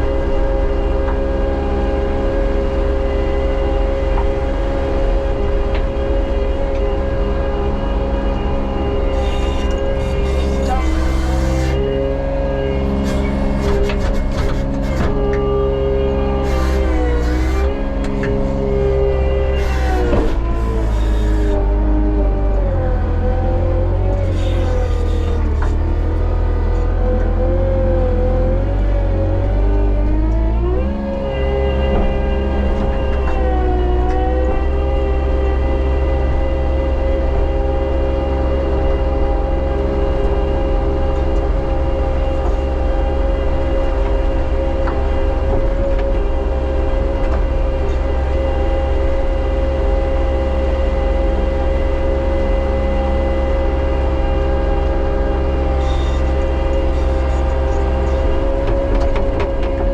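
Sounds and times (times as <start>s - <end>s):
loader engine and hydraulics: 0.0s - 59.9s.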